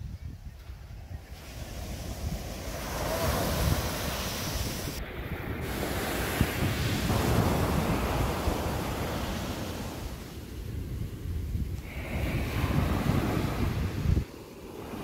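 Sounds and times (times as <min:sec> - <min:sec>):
wind buffeting microphone: 0:00.0 - 0:15.0
small waves breaking on beach: 0:01.2 - 0:15.0.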